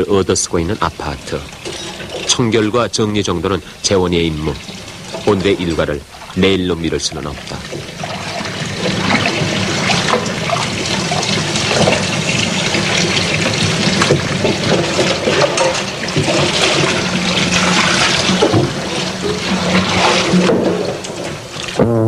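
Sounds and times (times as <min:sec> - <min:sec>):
tap water running into sink: 0:00.0 - 0:21.8
dishes clinking: 0:00.8 - 0:05.9, 0:07.4 - 0:21.5.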